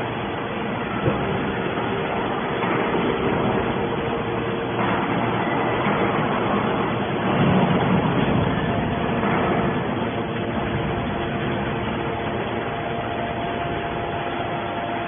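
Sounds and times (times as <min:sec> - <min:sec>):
hydraulic baler humming: 0:00.0 - 0:15.0.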